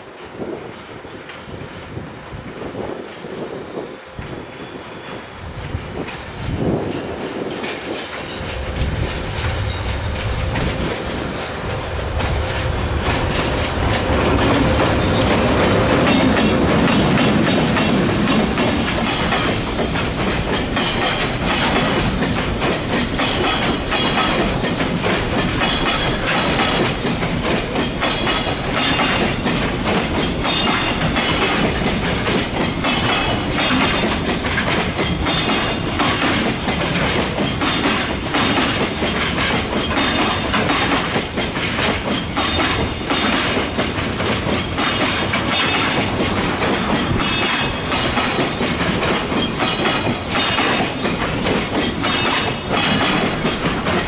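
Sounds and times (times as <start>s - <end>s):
electric locomotive passing: 0.0s - 54.0s
wheels clacking over rail joints: 4.2s - 54.0s.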